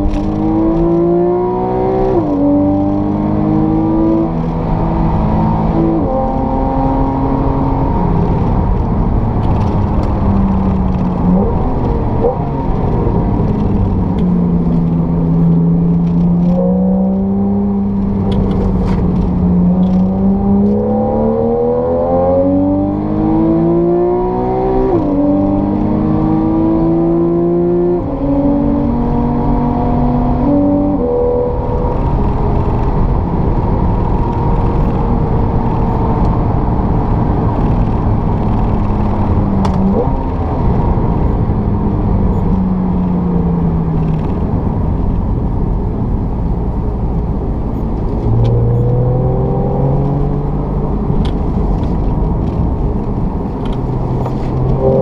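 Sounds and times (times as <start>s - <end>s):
car engine revving with upshifts: 0.0s - 55.0s.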